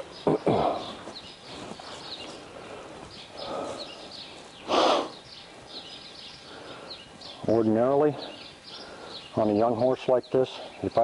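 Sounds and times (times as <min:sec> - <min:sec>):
small birds chirping faintly: 0:00.0 - 0:11.0.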